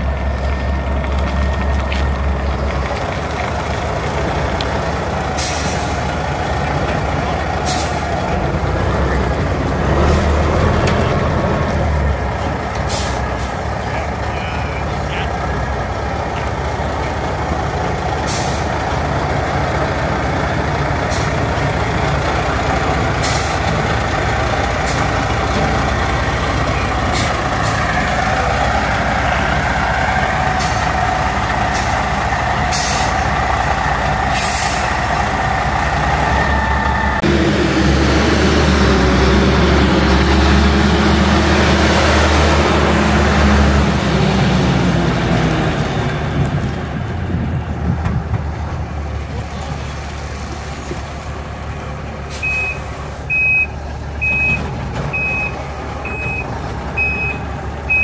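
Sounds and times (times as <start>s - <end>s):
truck diesel engine drone: 0.0s - 58.0s.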